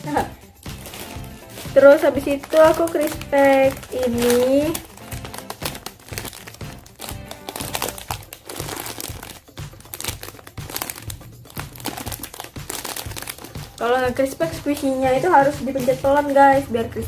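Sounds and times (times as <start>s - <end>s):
background music with low beat: 0.0s - 17.0s
plastic bag crinkling: 0.6s - 16.1s.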